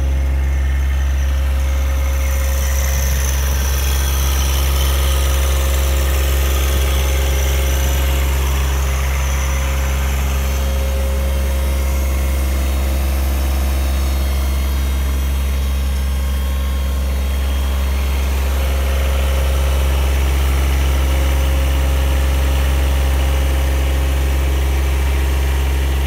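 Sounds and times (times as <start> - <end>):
diesel tractor engine idling: 0.0 - 26.0.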